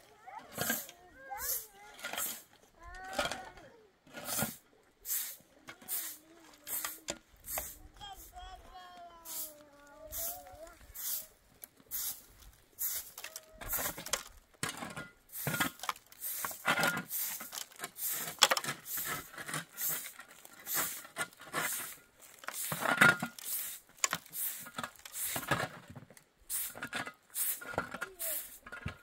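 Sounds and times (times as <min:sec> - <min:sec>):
scraping and rustling: 0:05.3 - 0:29.0.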